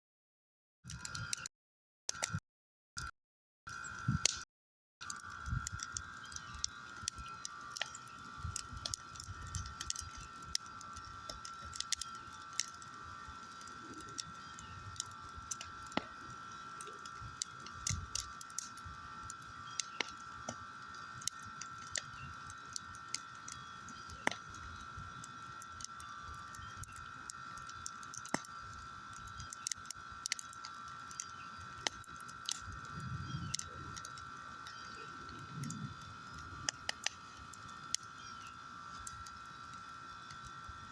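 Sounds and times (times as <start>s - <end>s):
fire crackling with sharp pops: 4.0s - 4.4s, 5.0s - 40.9s.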